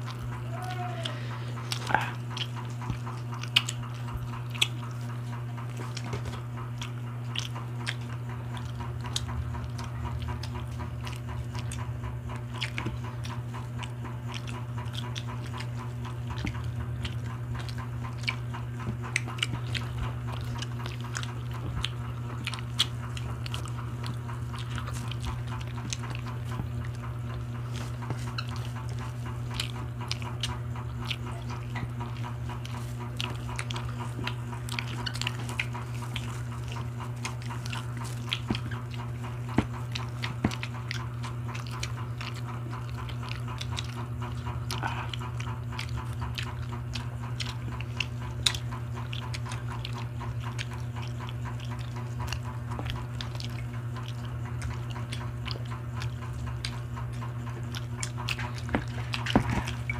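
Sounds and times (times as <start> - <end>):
people chewing meat: 0.0 - 59.9
steady low hum: 0.0 - 59.9.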